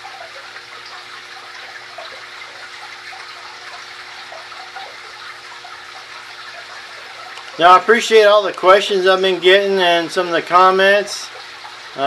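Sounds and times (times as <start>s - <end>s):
aquarium water splashing: 0.0s - 12.0s
faint steady hum: 0.0s - 12.0s.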